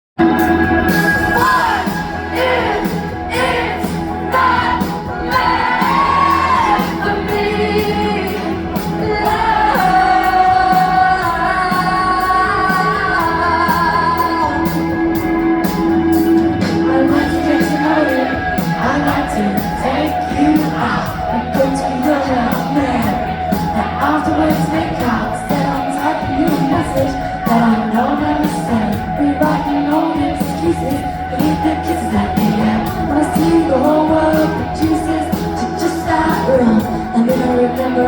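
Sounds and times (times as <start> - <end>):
live band music: 0.2 - 38.0
person singing: 0.2 - 38.0.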